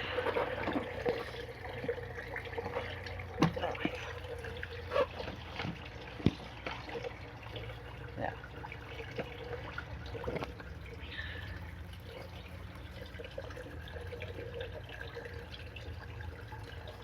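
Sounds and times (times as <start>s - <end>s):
steady low hum: 0.0s - 17.0s
water trickling and dripping: 0.0s - 17.0s.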